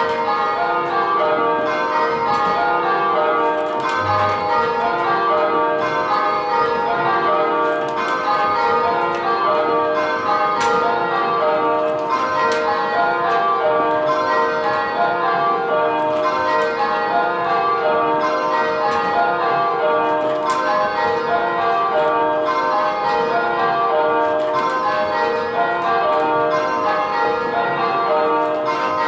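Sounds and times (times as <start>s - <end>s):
church bells change ringing: 0.0s - 29.0s.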